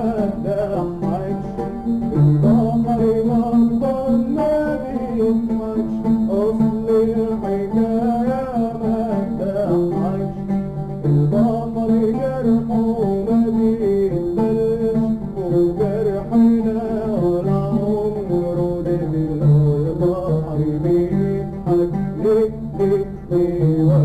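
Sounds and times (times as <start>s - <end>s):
guitar playing: 0.0s - 24.0s
oud playing: 0.0s - 24.0s
person singing: 0.0s - 24.0s.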